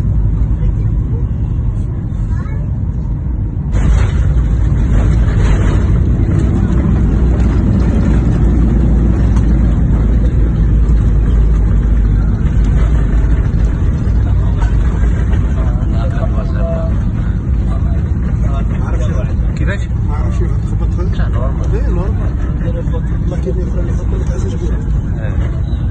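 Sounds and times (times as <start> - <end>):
airliner engines roaring: 0.0 - 25.9
plane rolling on runway: 0.0 - 25.9.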